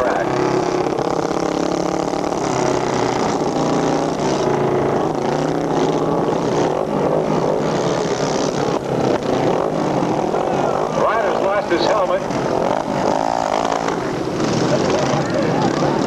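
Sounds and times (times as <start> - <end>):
motorcycle engines droning: 0.0 - 16.0.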